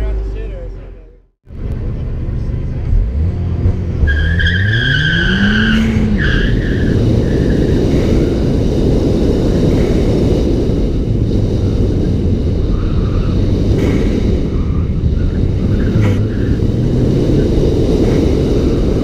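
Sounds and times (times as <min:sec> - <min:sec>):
car engine revving: 0:00.0 - 0:19.0
road and tyre noise: 0:00.0 - 0:19.0.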